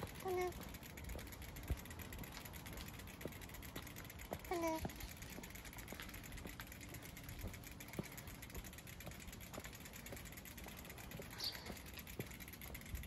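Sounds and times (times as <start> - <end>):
bicycle tyre rumble: 0.0 - 13.0
bike clicks and rattles: 0.0 - 13.0.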